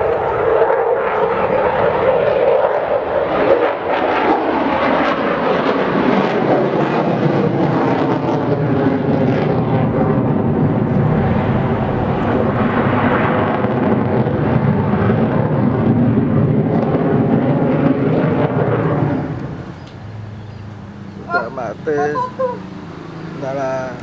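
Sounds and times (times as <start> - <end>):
military airplane engine in flight: 0.0 - 24.0.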